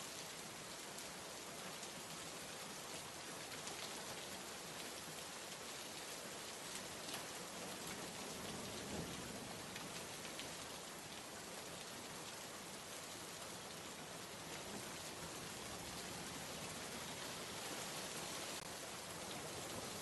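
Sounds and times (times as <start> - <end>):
rainfall hiss: 0.0 - 20.0.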